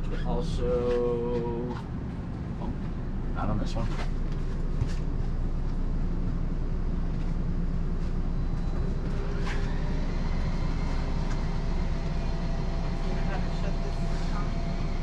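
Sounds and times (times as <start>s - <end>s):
electric motor low rumble: 0.0s - 15.0s.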